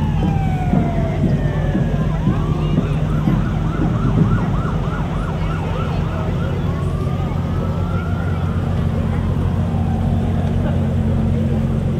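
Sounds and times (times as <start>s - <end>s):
emergency siren wailing and yelping: 0.0s - 11.0s
low engine hum: 0.0s - 11.9s.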